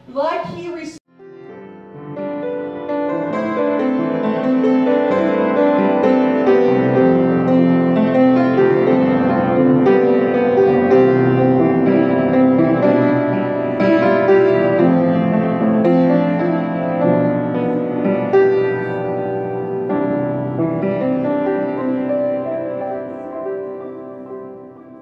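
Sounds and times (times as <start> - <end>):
instrumental music of held notes: 1.2 - 25.0.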